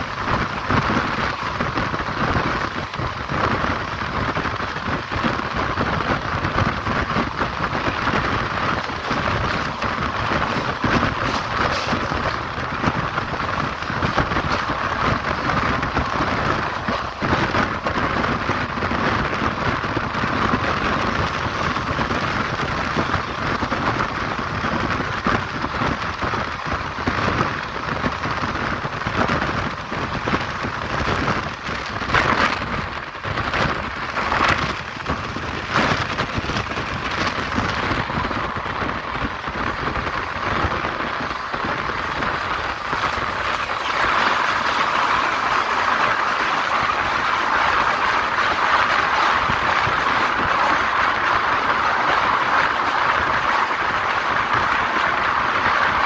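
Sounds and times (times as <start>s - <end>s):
rush of wind: 0.0s - 56.0s
train wheels on rails: 0.0s - 56.0s.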